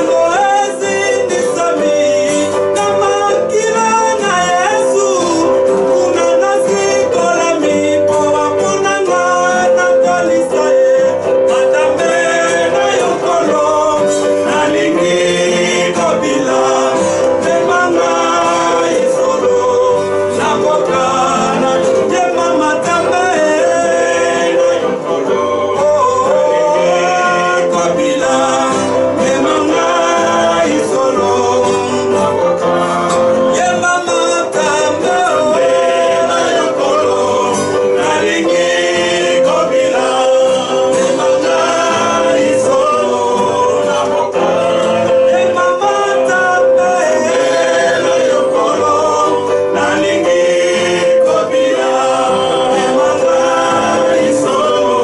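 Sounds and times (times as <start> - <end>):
man singing gospel song: 0.0 - 55.0
strummed acoustic guitar: 0.0 - 55.0.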